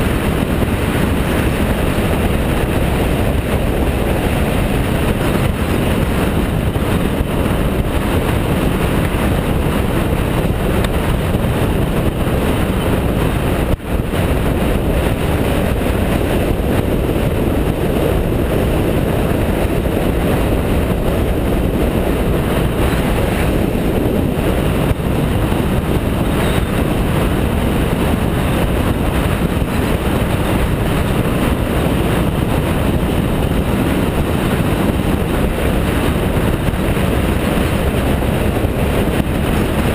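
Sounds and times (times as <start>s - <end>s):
motorcycle engine and road noise: 0.0s - 39.9s
wind rushing: 0.0s - 39.9s.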